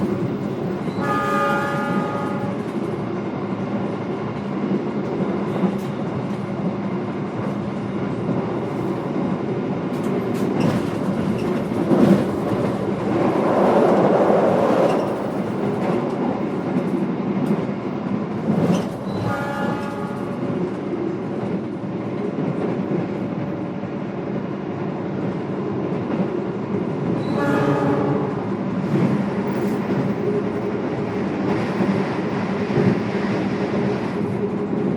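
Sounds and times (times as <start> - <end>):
train rumble and hum: 0.0 - 34.9.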